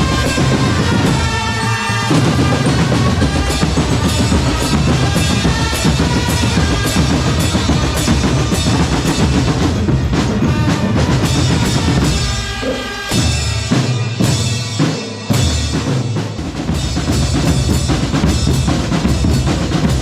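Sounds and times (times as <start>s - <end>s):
snare drums: 0.0s - 20.0s.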